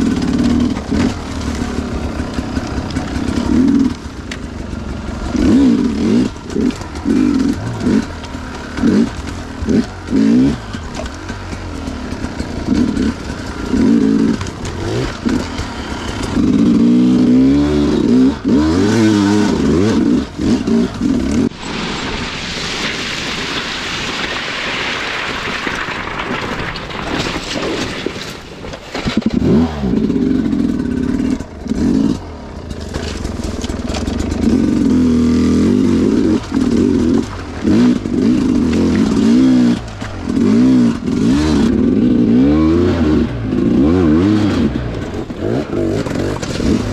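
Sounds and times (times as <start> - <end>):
dirt bike engine revving: 0.0 - 22.4, 29.2 - 46.9.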